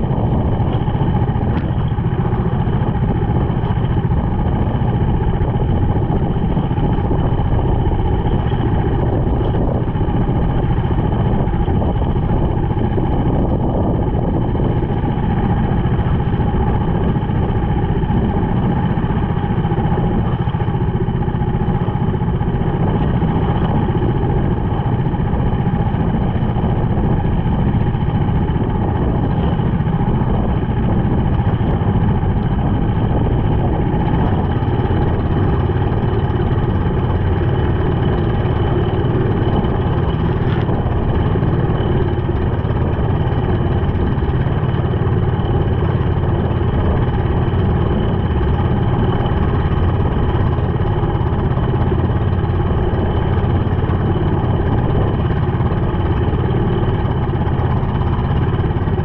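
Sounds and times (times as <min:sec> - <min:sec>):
boat engine running: 0:00.0 - 0:59.0
water splashing along hull: 0:00.0 - 0:59.0.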